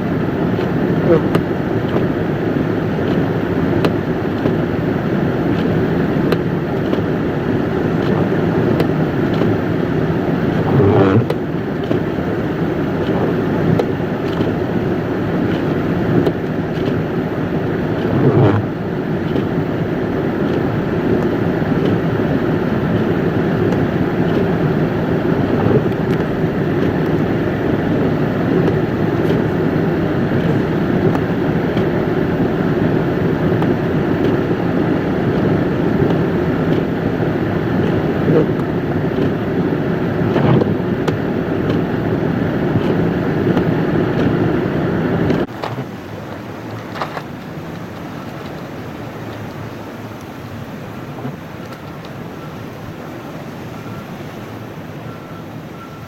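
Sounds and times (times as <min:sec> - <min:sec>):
vehicle engine and tyre noise: 0:00.0 - 0:56.0
wind noise: 0:00.0 - 0:56.0.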